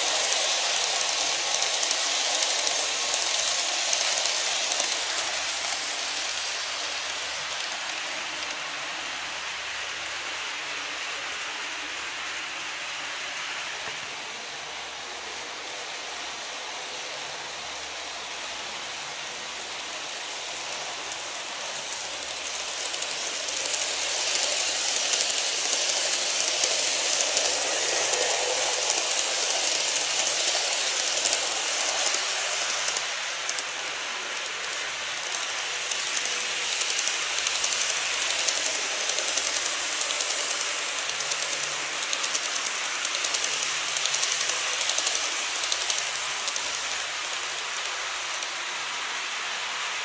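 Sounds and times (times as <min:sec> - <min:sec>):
model train wheels and motor: 0:00.0 - 0:50.0.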